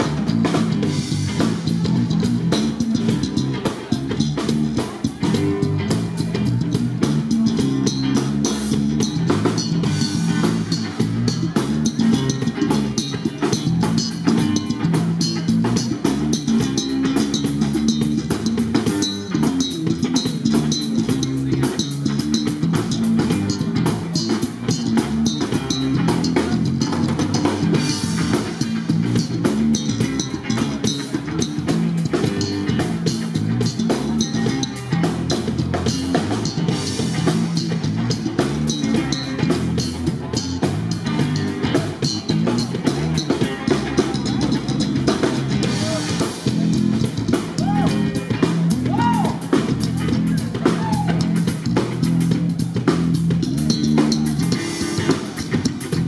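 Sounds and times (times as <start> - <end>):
drum kit beat with cymbals: 0.0 - 56.0
electric bass guitar: 0.0 - 56.0
guitar: 0.0 - 56.0.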